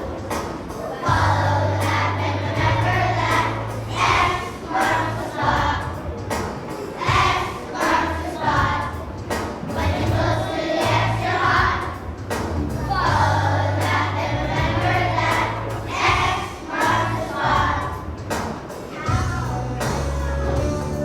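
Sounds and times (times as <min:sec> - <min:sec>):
children's choir singing: 0:00.0 - 0:19.8
instrumental accompaniment: 0:00.0 - 0:21.0.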